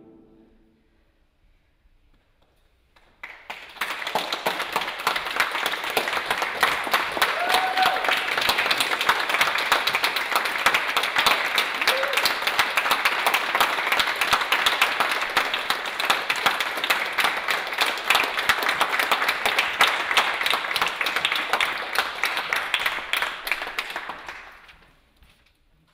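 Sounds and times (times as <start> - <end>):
audience applauding: 2.9 - 24.9.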